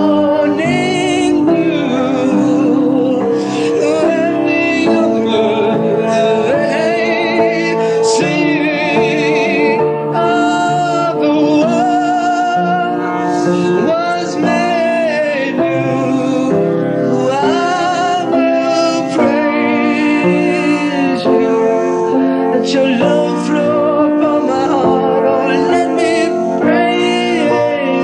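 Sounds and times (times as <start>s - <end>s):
sustained accompaniment: 0.0s - 28.0s
voice singing with vibrato: 0.0s - 28.0s.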